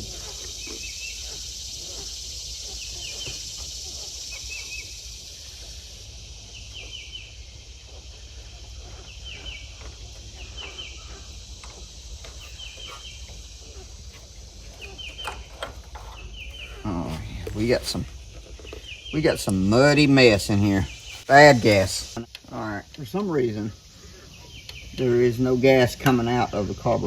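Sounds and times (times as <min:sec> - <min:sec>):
bird chirping: 0:00.0 - 0:22.3, 0:23.8 - 0:25.3
high insect drone: 0:00.0 - 0:27.0.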